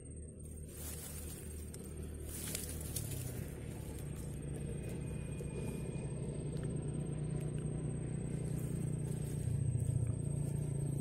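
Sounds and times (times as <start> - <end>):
distant motor humming: 0.0 - 11.0
high-pitched whine: 0.0 - 11.0.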